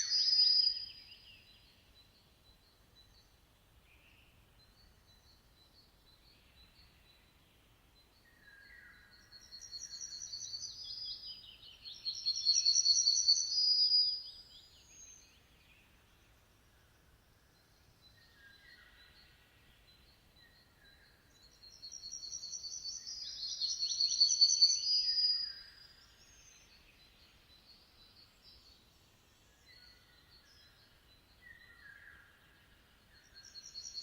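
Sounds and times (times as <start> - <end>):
songbird singing: 0.0 - 34.0.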